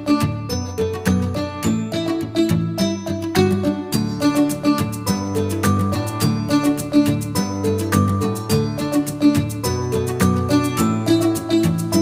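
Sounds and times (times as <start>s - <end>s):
upbeat acoustic guitar music: 0.0s - 12.0s.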